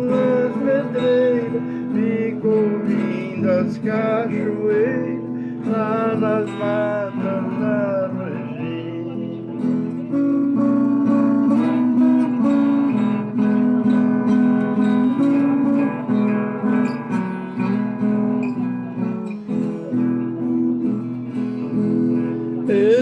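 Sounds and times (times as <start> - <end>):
acoustic guitar picking and strumming: 0.0 - 23.0.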